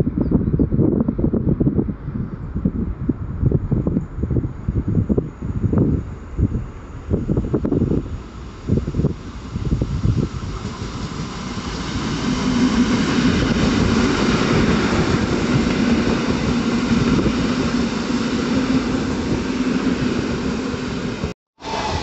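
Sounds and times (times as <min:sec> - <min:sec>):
train wheels rumbling on rail: 0:02.6 - 0:22.0.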